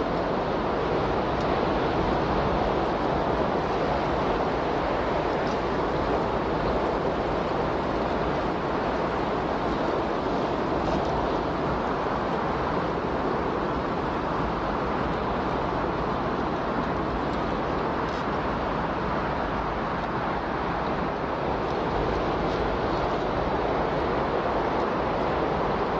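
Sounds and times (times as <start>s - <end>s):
steady rushing noise: 0.0s - 25.9s.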